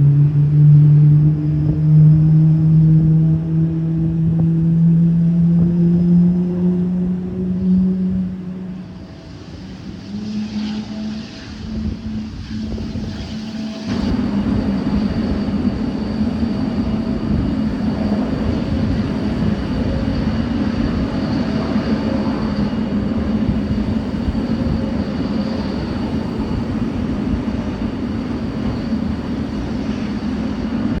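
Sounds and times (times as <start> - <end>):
jet engine drone: 0.0 - 31.0
thin high whine: 0.0 - 31.0.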